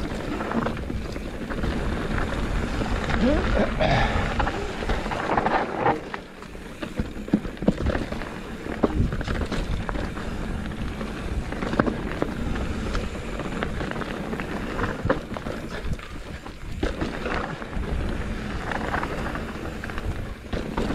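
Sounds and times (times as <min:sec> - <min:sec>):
bike knocking and rattling: 0:00.0 - 0:20.9
bike tyres rumbling: 0:00.0 - 0:20.9.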